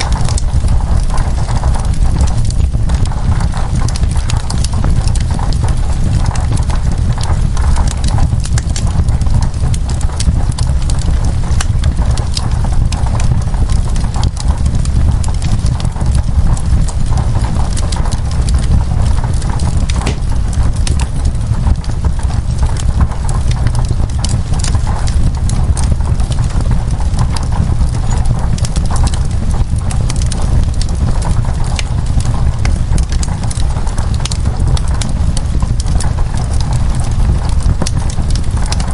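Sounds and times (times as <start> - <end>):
rain on window glass: 0.0 - 38.9
wood fire crackling and popping: 0.0 - 38.9.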